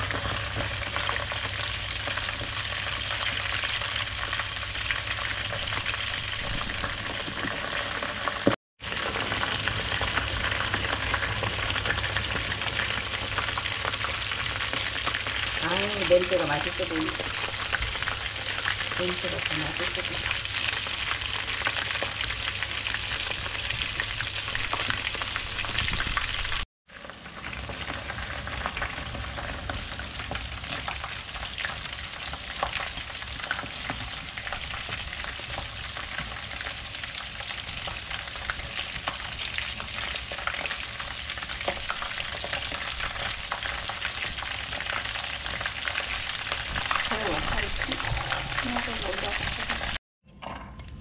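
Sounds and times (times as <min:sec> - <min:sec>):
shrimp deep-frying in oil: 0:00.0 - 0:50.0.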